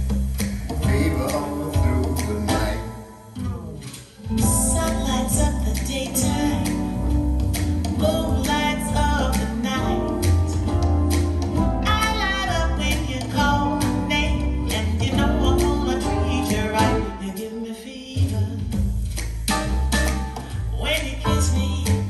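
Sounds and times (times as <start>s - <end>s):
song with singing over guitar: 0.6s - 18.8s, 19.5s - 22.0s.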